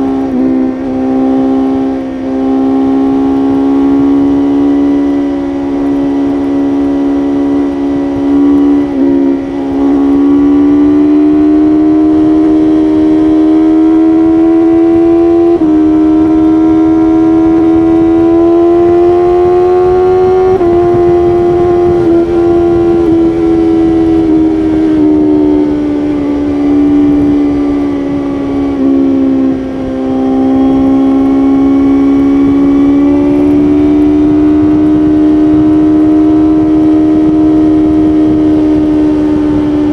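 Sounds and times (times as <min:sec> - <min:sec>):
motorcycle engine at high revs: 0:00.0 - 0:39.9
wind rushing: 0:05.3 - 0:39.9.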